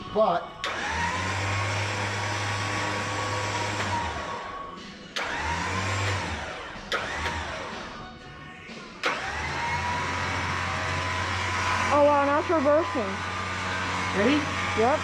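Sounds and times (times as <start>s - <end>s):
electric winch motor whining: 0.6s - 8.1s, 9.0s - 15.0s.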